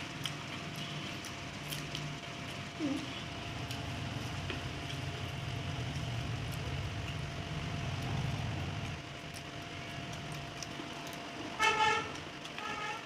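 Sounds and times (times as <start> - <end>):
vehicle engine rumbling: 0.1 - 13.0.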